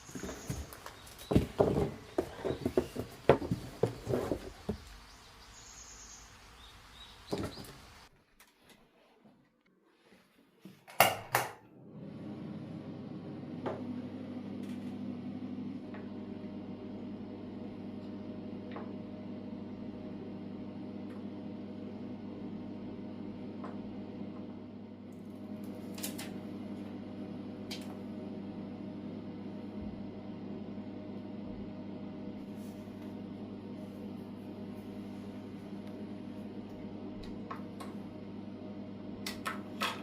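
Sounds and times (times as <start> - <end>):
kitchen appliance humming: 0.0 - 5.0, 11.7 - 40.0.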